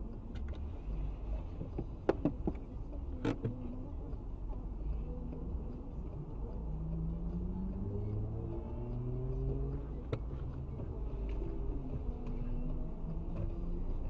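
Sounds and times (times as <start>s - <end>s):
passing city traffic: 0.0s - 14.0s.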